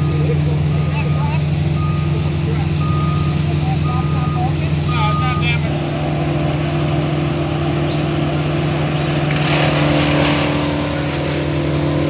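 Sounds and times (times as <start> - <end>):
rough mechanical noise: 0.0 - 12.0
truck engine running: 0.0 - 12.0.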